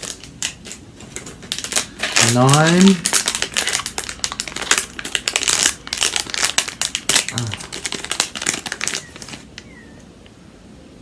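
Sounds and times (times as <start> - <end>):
foil packet crinkling and tearing: 0.0 - 9.8.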